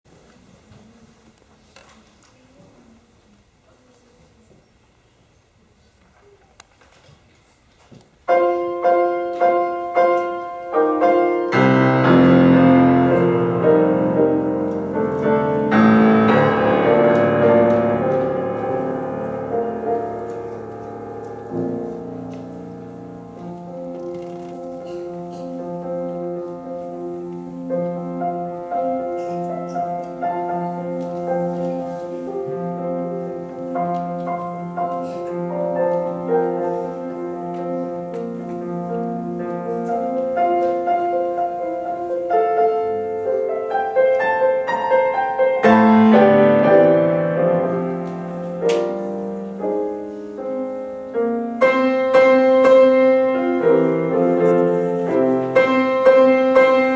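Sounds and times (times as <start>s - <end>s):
piano playing hymn: 8.2s - 56.9s.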